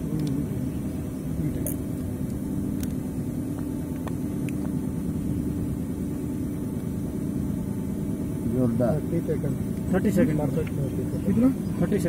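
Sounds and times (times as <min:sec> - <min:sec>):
machinery drone: 0:00.0 - 0:12.0.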